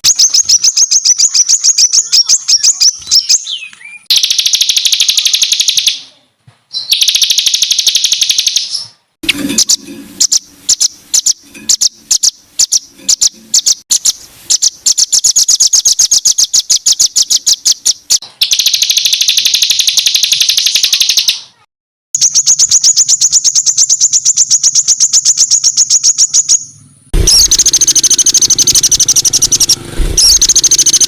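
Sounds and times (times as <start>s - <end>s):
songbird singing rapid harsh notes: 0.0s - 6.1s, 6.7s - 31.0s.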